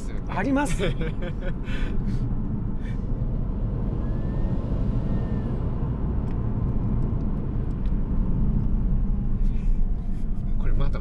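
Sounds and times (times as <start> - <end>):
car engine and road noise rumble: 0.0 - 11.0.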